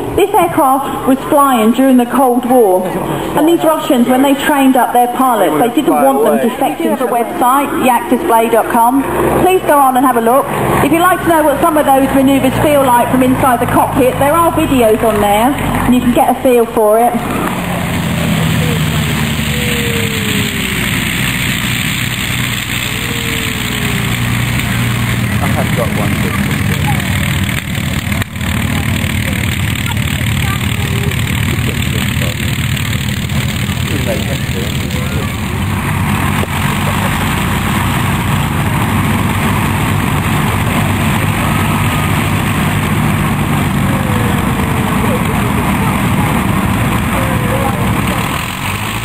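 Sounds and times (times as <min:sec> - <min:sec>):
radial aircraft engine droning: 0:00.0 - 0:49.0.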